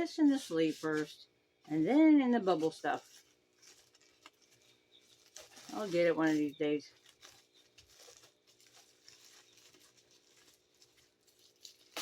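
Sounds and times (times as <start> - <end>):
faint steady hum: 0.0 - 12.0
plastic packaging crinkling: 0.3 - 12.0.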